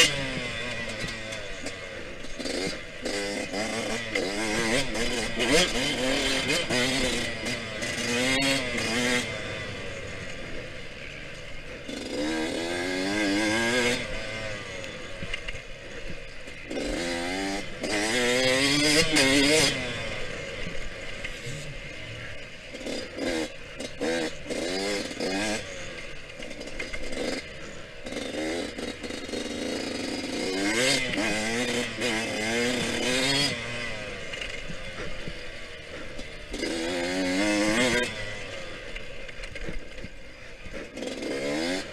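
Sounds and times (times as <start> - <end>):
two-stroke motorcycle engine revving: 0.0 - 41.9.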